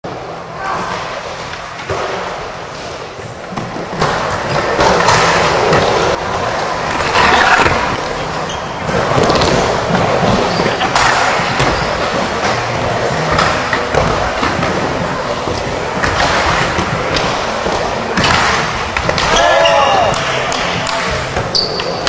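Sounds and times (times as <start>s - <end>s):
skateboard wheels rolling on wood: 1.2s - 20.1s.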